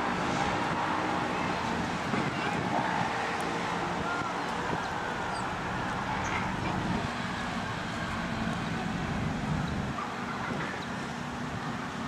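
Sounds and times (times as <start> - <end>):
diesel train engine drone: 0.0 - 12.0.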